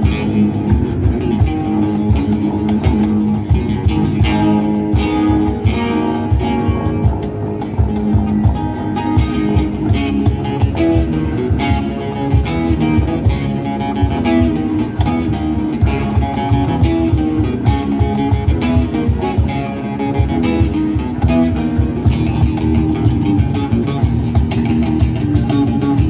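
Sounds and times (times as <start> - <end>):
acoustic guitar music: 0.0 - 26.0
steady bass beat: 0.0 - 26.0.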